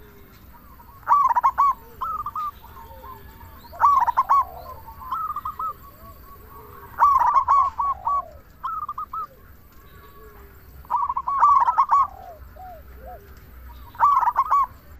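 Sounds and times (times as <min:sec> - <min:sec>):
dove cooing: 0:00.0 - 0:14.9.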